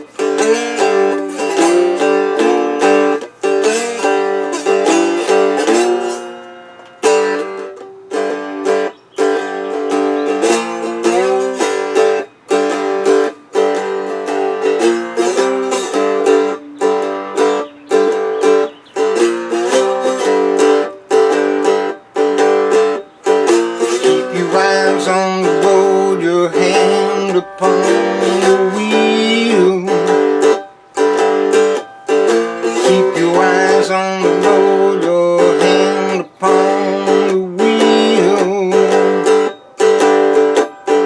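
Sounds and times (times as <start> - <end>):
slide guitar blues lick: 0.0 - 41.0.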